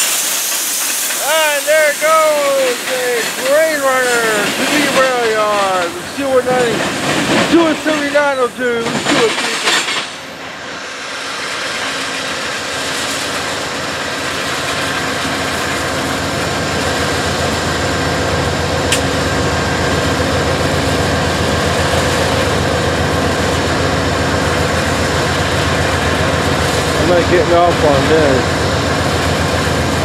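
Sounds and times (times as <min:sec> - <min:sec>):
diesel locomotive idling: 0:00.0 - 0:30.0.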